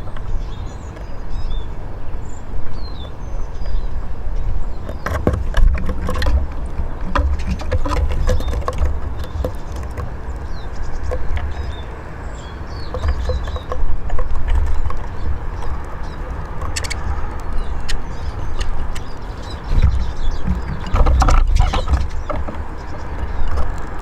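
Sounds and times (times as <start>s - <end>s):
high falling bird calls: 0.0s - 24.0s.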